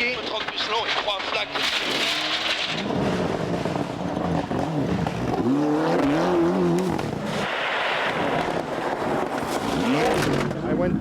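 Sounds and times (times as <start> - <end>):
car engine revving hard: 1.6 - 10.4.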